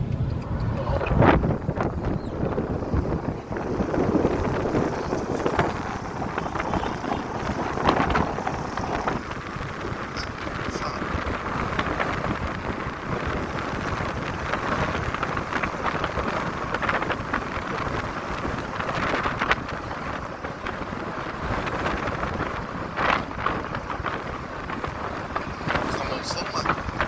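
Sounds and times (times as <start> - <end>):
road traffic noise: 0.0 - 27.0
wind buffeting microphone: 0.0 - 27.0.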